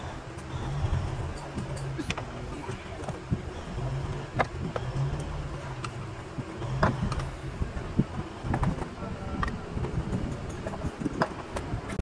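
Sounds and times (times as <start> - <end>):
low hum: 0.0 - 12.0
tools clicking and knocking on engine: 0.3 - 12.0.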